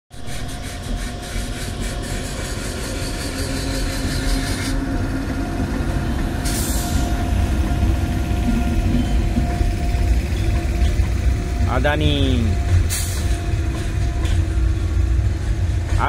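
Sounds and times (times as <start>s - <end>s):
train wheels rumbling on rail: 0.1s - 16.0s
locomotive hum: 0.2s - 16.0s.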